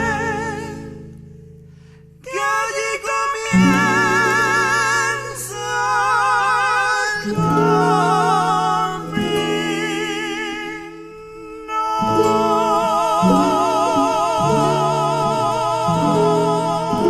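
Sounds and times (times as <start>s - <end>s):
person singing with vibrato: 0.0s - 1.3s, 2.0s - 17.0s
guitar accompaniment: 0.0s - 17.0s.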